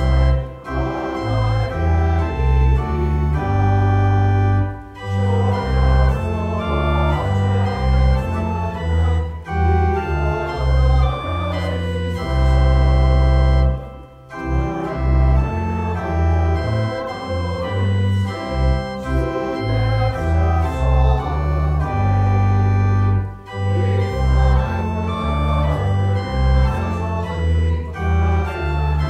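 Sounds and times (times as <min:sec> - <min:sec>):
church organ chords: 0:00.0 - 0:29.0.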